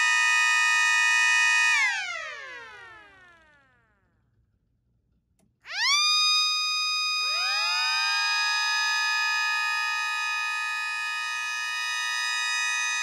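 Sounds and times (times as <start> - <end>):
high siren tone: 0.0 - 3.8, 5.7 - 13.0
lower siren winding up: 0.0 - 4.4, 5.4 - 13.0.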